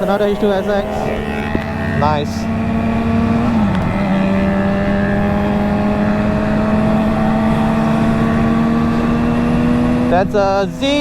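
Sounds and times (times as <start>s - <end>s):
motorcycle engine cruising: 0.0s - 11.0s
wind and road rush: 0.0s - 11.0s.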